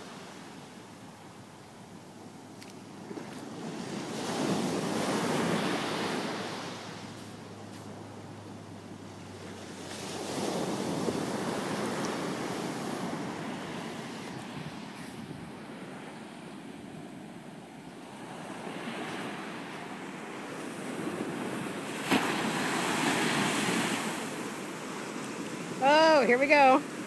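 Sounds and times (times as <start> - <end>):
ocean surf breaking: 2.9 - 27.0.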